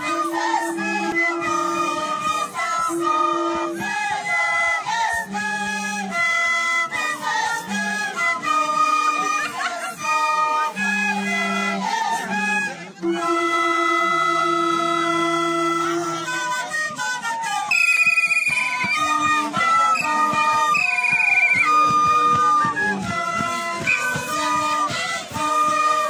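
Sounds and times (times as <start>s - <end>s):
group of people singing: 0.0s - 16.7s, 17.5s - 26.0s
carnival music with held notes: 0.0s - 26.0s.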